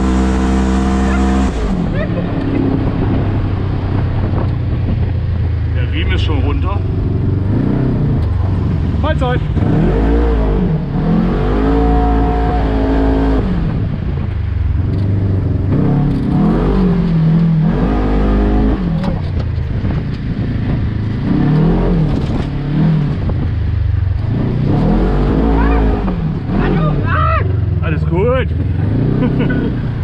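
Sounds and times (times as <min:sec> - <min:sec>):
buggy engine revving: 0:00.0 - 0:30.0.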